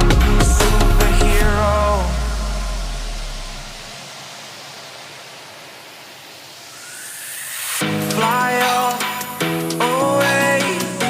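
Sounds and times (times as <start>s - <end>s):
steady hiss: 0.8s - 11.0s.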